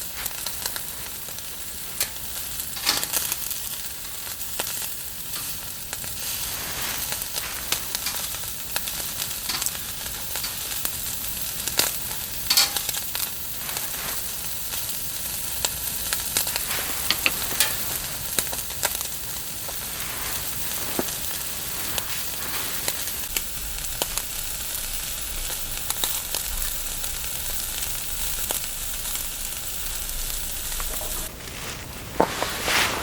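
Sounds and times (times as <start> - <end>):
sizzling with pops: 0.0 - 33.0.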